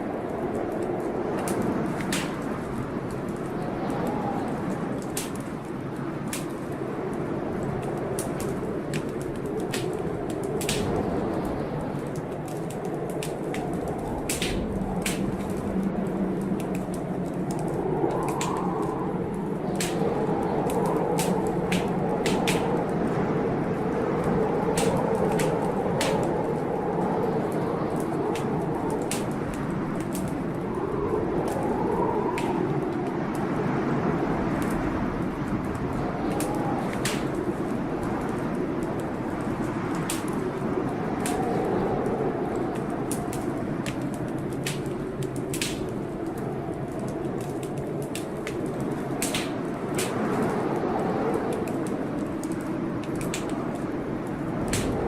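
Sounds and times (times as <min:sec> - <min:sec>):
blizzard wind rushing: 0:00.0 - 0:55.0
wood fire crackling: 0:00.0 - 0:55.0.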